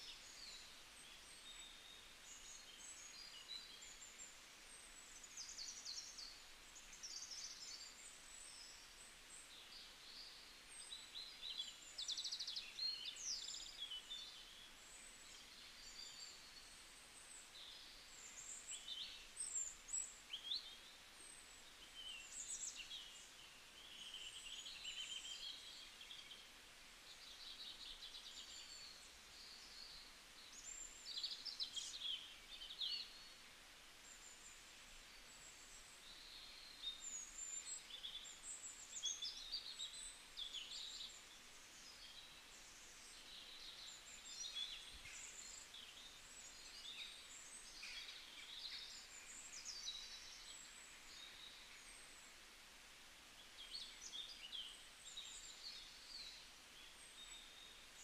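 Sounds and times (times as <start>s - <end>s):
birds chirping and twittering: 0.0s - 52.5s, 53.3s - 58.0s
low hiss: 0.0s - 58.0s.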